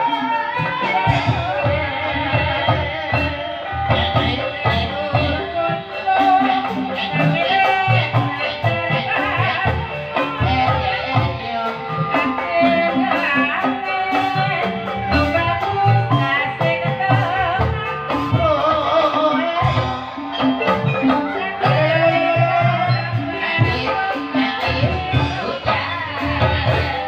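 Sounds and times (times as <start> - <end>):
drums keeping a steady beat: 0.0 - 27.0
melodic instrument: 0.0 - 27.0
person singing: 0.0 - 27.0.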